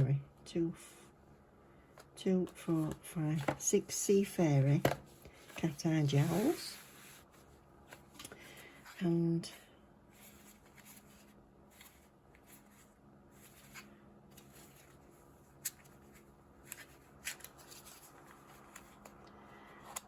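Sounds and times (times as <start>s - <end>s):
electric fan humming: 0.0s - 20.0s.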